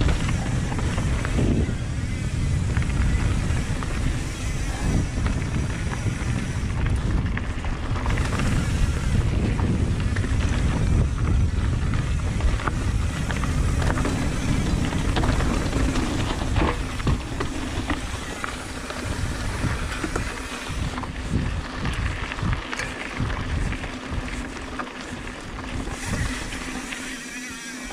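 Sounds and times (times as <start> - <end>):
bike clicks and knocks: 0.0 - 27.9
tyres rolling over dirt: 0.0 - 27.9
wind rumbling on microphone: 0.0 - 27.9.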